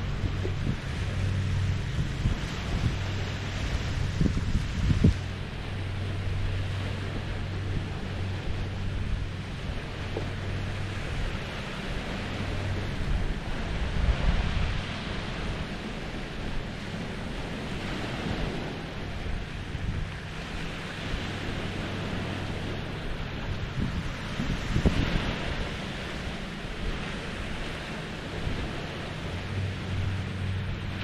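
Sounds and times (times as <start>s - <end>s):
low steady hum: 0.0s - 31.0s
small waves lapping on shore: 0.0s - 31.0s
wind on microphone: 0.0s - 31.0s.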